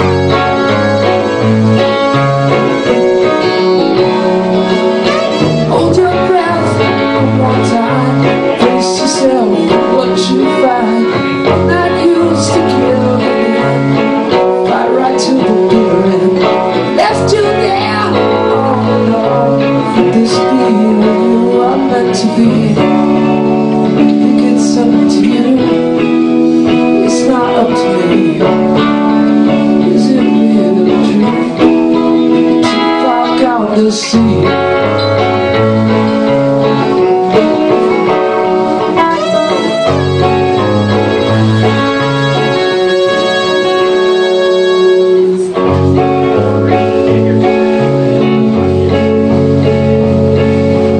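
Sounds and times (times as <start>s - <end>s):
bass and keyboard: 0.0s - 14.8s, 15.7s - 50.9s
distorted electric guitars: 0.0s - 50.9s
person singing: 0.0s - 50.9s.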